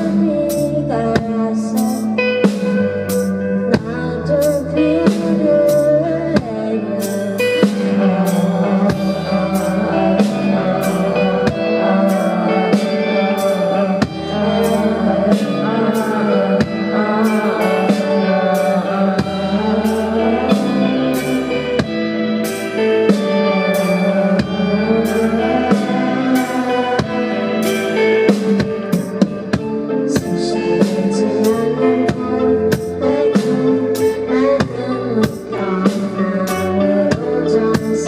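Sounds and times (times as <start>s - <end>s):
drum kit beat: 0.0s - 38.0s
live band playing: 0.0s - 38.0s.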